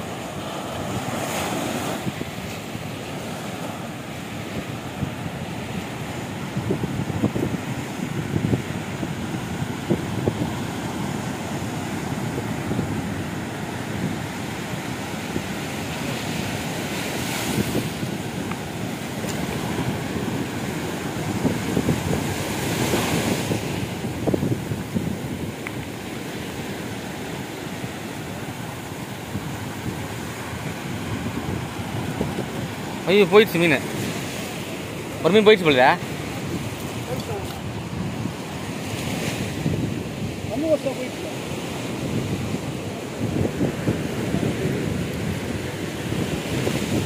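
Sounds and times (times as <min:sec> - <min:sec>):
surf washing up beach: 0:00.0 - 0:47.0
waves breaking: 0:00.0 - 0:47.0
wind buffeting microphone: 0:00.0 - 0:47.0.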